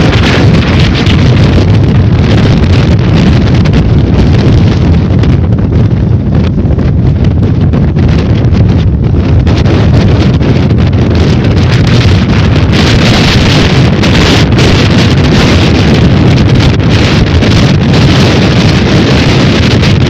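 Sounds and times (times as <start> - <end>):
storm wind buffeting microphone: 0.0 - 20.0.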